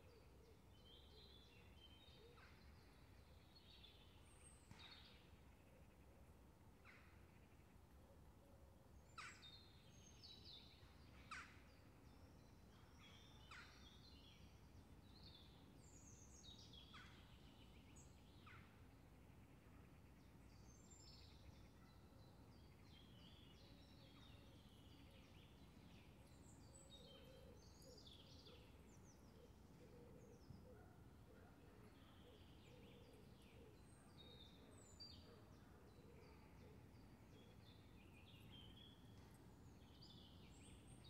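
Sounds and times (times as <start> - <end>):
songbird chirps: 0.0 - 41.0.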